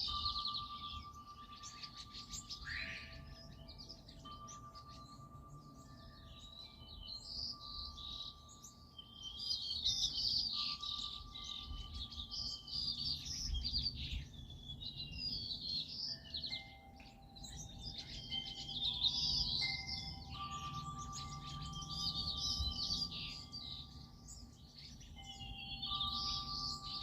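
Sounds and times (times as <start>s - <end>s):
faint steady held tones: 0.0s - 27.0s
small birds chirping: 0.0s - 27.0s.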